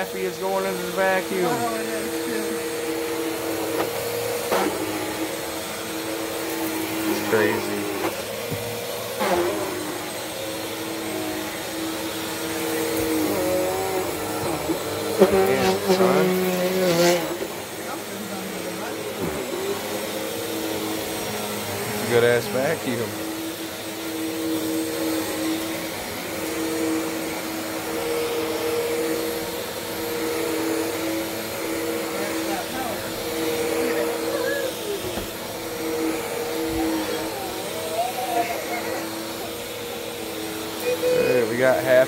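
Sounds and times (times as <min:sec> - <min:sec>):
vacuum cleaner running: 0:00.0 - 0:42.0.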